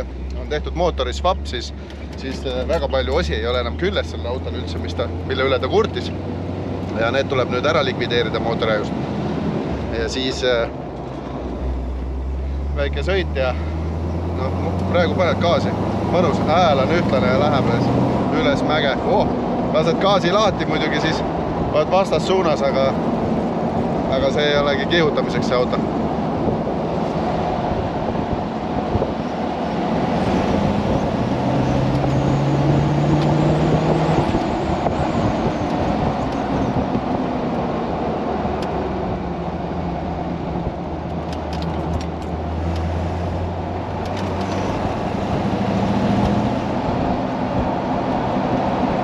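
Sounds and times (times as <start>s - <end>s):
engine running steadily: 0.0s - 49.0s
road and wind noise: 0.0s - 49.0s.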